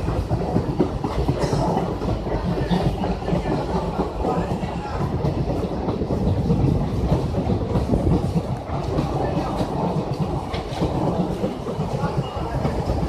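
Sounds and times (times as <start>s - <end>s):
train rumble: 0.0s - 13.0s
wheels clattering over rails: 0.0s - 13.0s.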